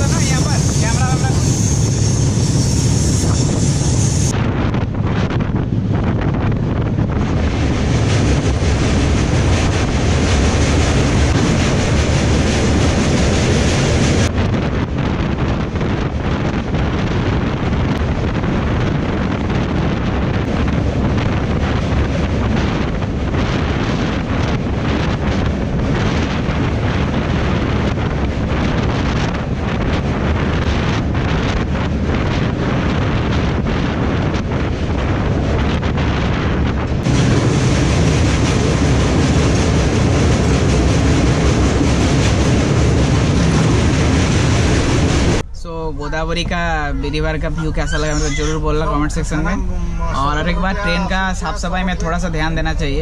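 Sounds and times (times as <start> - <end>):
train rumble: 0.0 - 53.0
wind buffeting microphone: 0.0 - 53.0.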